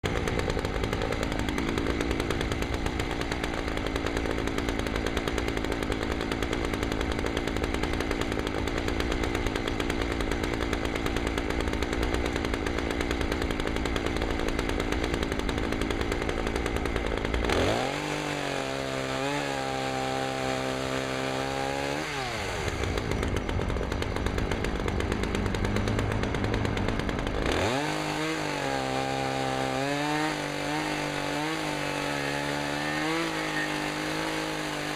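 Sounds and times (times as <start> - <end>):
chainsaw cutting: 0.0 - 34.9
chainsaw revving: 0.0 - 34.9.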